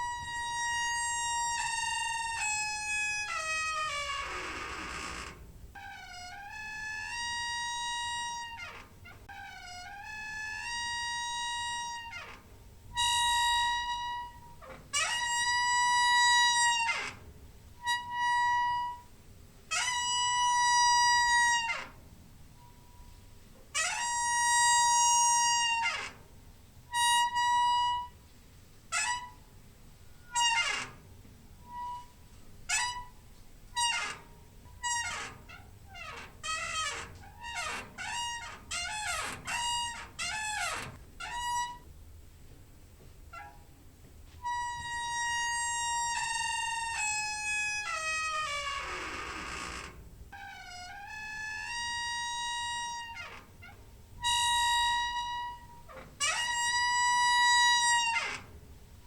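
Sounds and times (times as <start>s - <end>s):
door hinge squeaking: 0.0s - 22.0s, 22.6s - 26.3s, 26.9s - 28.2s, 28.9s - 41.9s, 43.3s - 43.8s, 44.4s - 58.6s.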